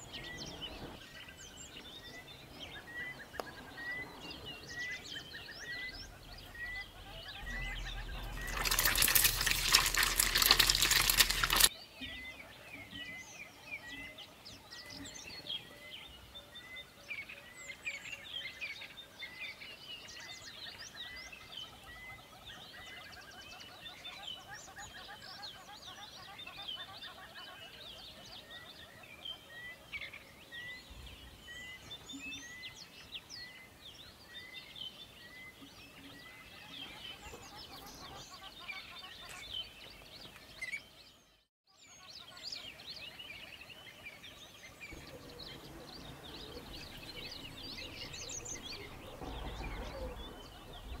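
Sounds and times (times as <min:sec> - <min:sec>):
birds chirping and singing: 0:00.0 - 0:51.0.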